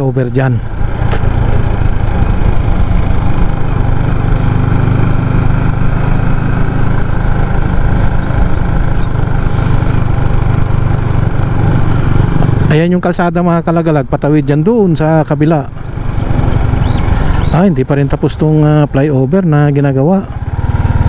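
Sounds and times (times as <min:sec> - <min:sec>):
motorcycle running: 0:00.0 - 0:21.0.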